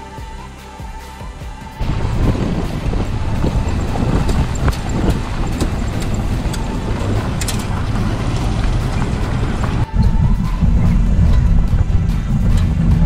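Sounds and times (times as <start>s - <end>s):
car engine and tyres on gravel: 0.9s - 13.0s.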